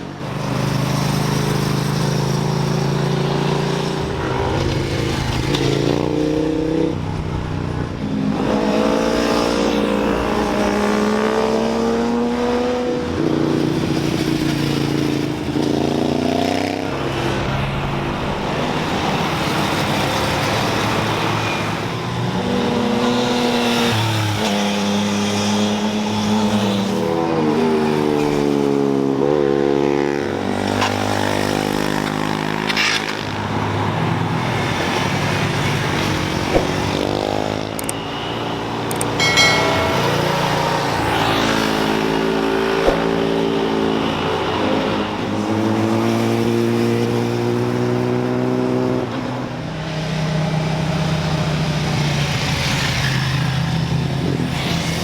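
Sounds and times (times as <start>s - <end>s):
motorcycle engines revving past: 0.0s - 55.0s.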